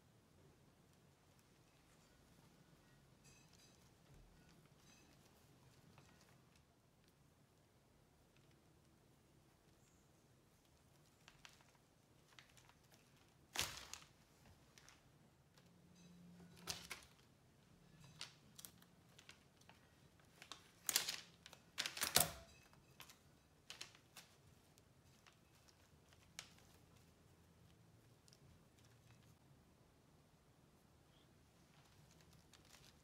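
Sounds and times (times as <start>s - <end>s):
soft handling clicks and rustles: 0.4s - 29.6s, 30.8s - 33.0s.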